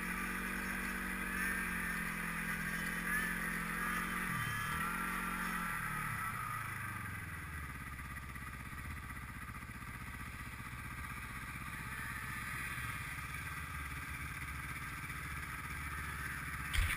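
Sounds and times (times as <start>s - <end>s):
snowmobile engine idling: 0.0s - 16.9s.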